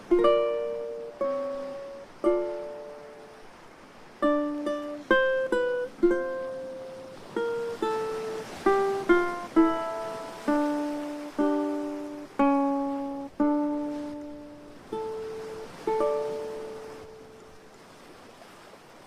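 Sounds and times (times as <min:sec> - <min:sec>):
ukulele plucking slow melody: 0:00.0 - 0:17.8.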